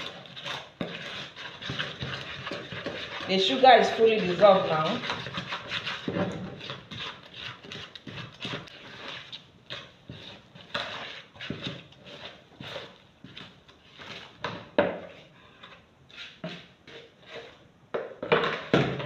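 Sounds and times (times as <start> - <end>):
wooden spoon scraping in bowl: 0.0 - 17.7.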